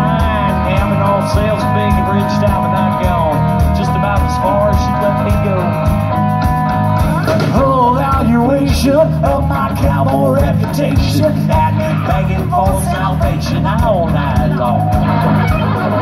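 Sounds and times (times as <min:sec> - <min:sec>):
person singing: 0:00.0 - 0:16.0
rock band playing: 0:00.0 - 0:16.0.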